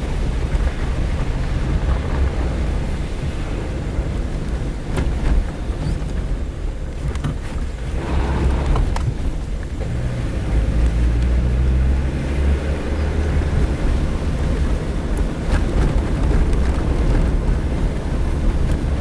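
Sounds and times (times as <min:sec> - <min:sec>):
car engine droning: 0:00.0 - 0:19.0.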